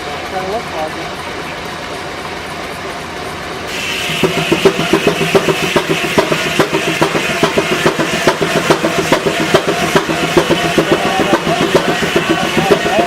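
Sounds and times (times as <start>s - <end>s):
stationary engine running: 0.0s - 13.0s.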